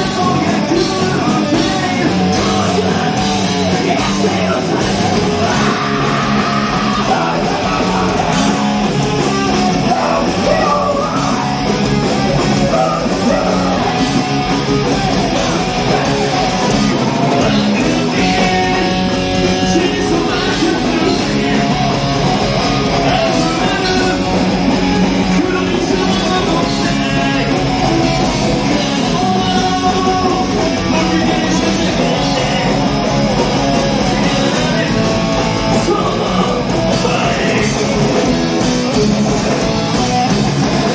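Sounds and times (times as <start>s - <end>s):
bass: 0.0s - 40.9s
distorted electric guitars: 0.0s - 40.9s
drums: 0.0s - 40.9s
singing and shouted vocals: 0.0s - 40.9s.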